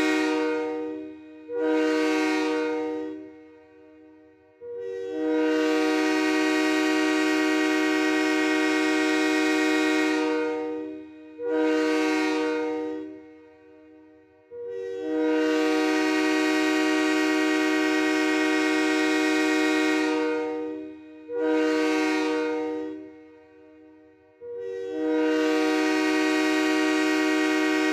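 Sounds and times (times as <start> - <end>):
train horn blasts: 0.0 - 27.9.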